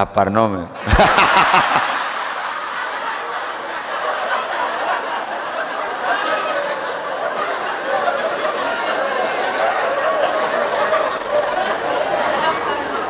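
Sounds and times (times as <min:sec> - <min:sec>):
audience laughing: 0:00.8 - 0:13.0.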